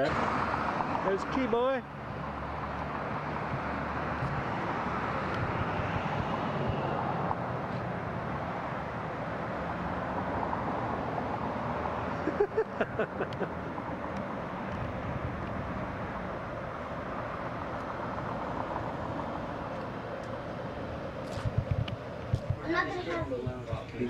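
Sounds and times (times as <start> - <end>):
rushing outdoor background noise: 0.0 - 24.0.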